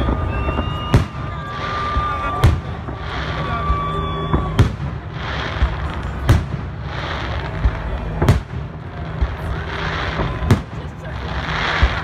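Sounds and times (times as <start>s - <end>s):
steady noisy background: 0.0s - 12.0s.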